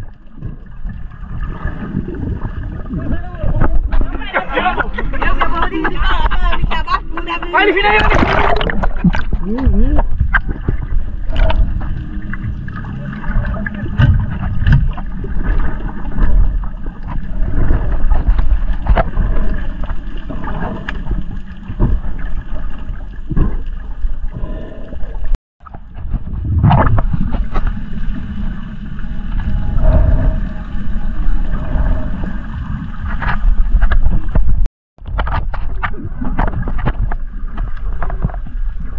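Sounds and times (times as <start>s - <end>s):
low underwater rumble: 0.0s - 38.9s.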